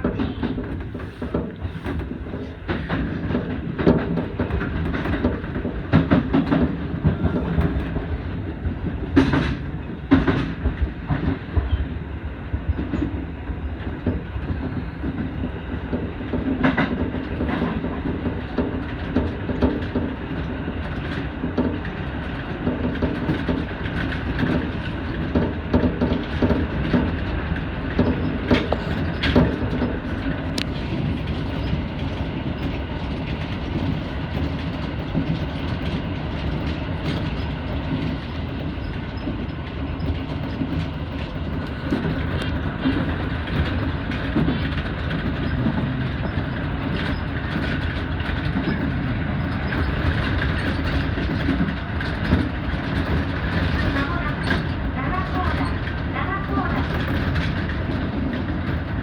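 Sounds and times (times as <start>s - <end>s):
train running gear rumbling: 0.0s - 59.0s
wheels clacking over rail joints: 0.0s - 59.0s.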